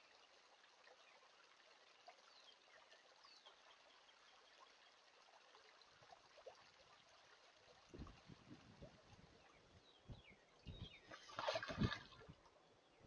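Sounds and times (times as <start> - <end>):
creek trickling over stones: 0.0 - 13.0.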